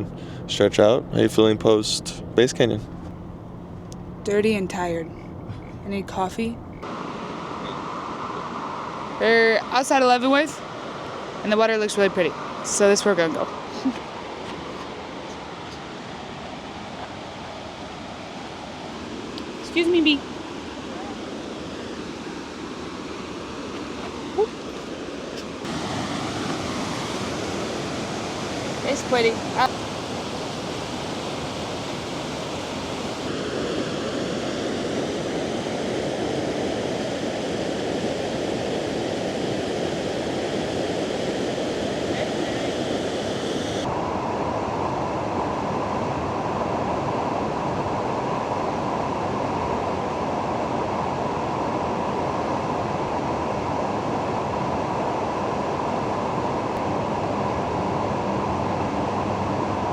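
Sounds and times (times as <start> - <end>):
river water over rocks: 6.8 - 59.9.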